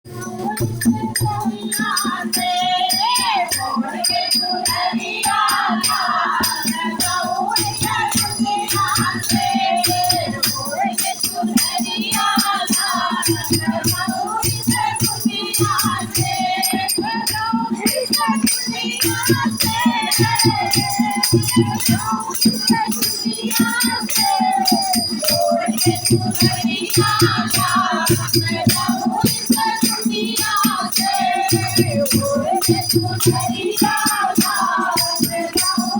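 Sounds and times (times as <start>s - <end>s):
jingling rattle beat: 0.1s - 35.9s.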